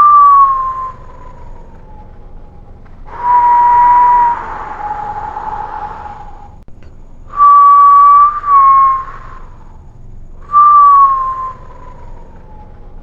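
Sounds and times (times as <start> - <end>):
person whistling: 0.0 - 1.8, 3.1 - 9.8, 10.4 - 12.5.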